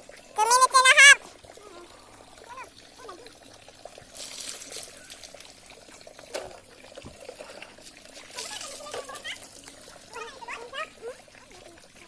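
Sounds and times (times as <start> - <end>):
water splashing and pouring: 0.0 - 12.0.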